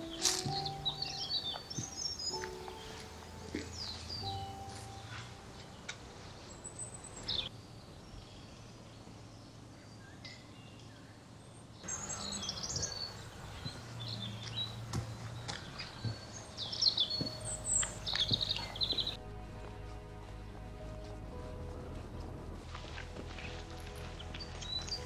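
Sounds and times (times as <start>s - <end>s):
songbirds chirping and singing: 0.0s - 25.0s.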